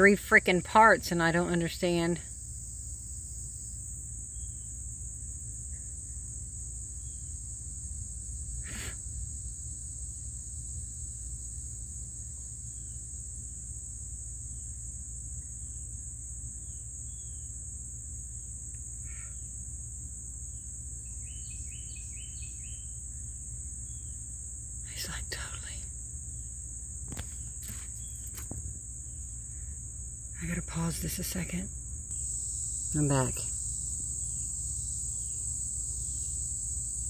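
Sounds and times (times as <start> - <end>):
insect chorus trilling: 0.0 - 37.0.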